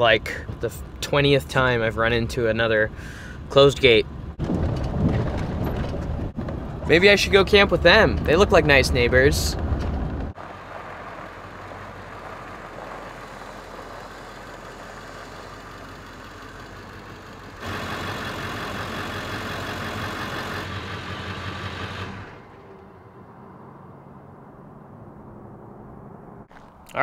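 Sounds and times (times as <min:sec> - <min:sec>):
truck engine driving: 0:00.0 - 0:27.0.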